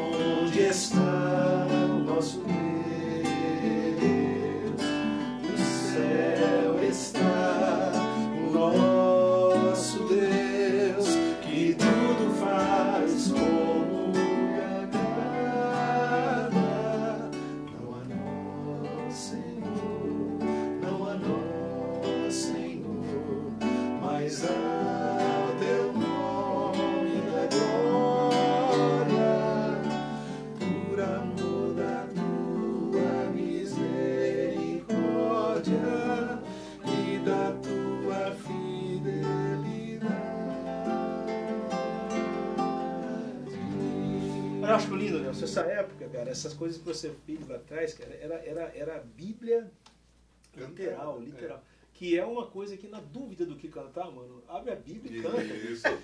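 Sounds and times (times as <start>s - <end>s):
person singing: 0.0s - 45.5s
acoustic guitar strummed and picked: 0.0s - 46.9s.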